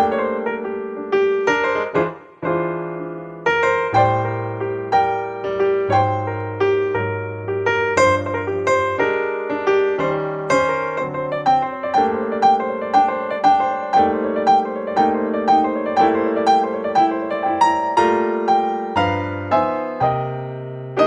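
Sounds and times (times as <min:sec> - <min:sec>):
gentle keyboard melody: 0:00.0 - 0:21.0.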